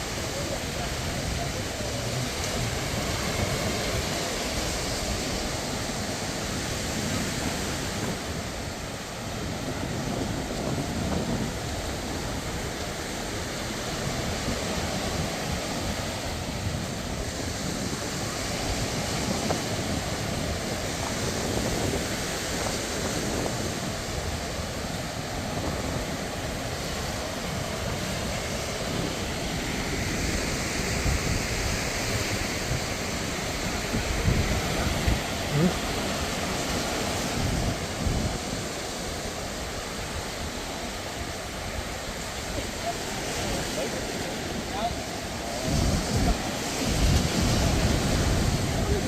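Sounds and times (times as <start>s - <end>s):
surf washing onto beach: 0.0s - 49.0s
wind buffeting microphone: 0.0s - 49.0s.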